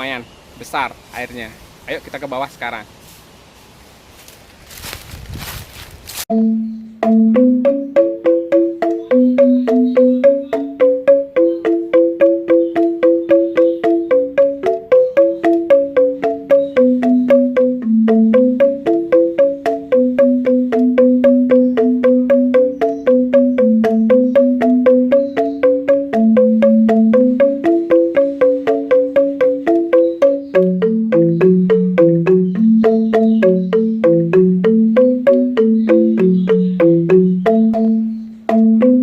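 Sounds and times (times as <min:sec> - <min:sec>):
mallet instrument melody: 0:06.3 - 0:39.0.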